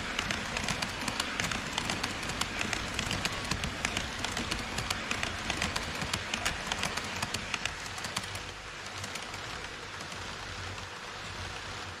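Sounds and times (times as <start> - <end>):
model train running with hum: 0.0 - 12.0
model train wheels clicking: 0.0 - 12.0.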